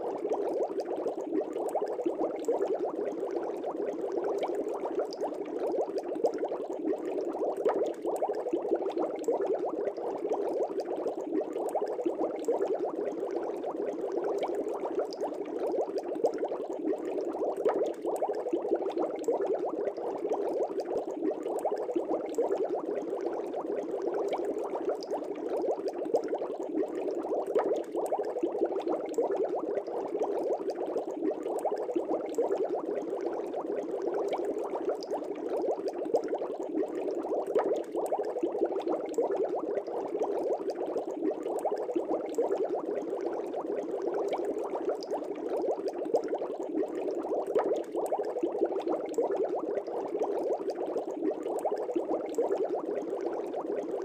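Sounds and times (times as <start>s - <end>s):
aquarium bubbling: 0.0s - 54.0s.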